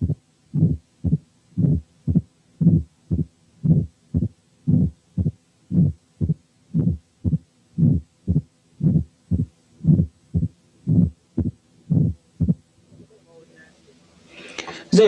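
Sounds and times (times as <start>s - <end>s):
heartbeat with murmur: 0.0s - 12.6s.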